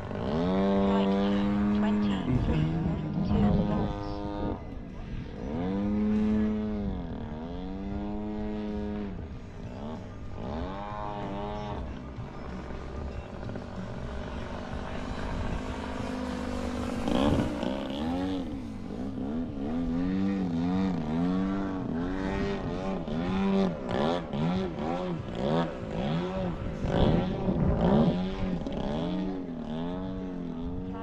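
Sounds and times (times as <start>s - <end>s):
model plane motor droning: 2.8s - 31.0s.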